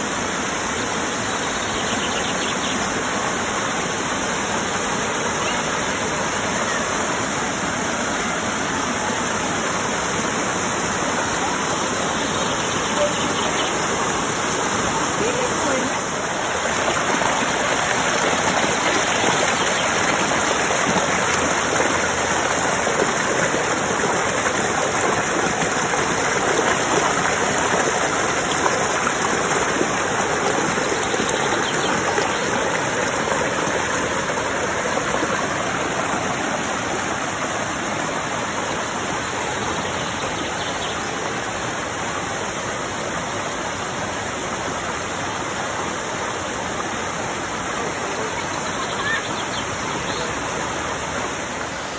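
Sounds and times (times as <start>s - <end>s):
running water rushing: 0.0s - 51.9s.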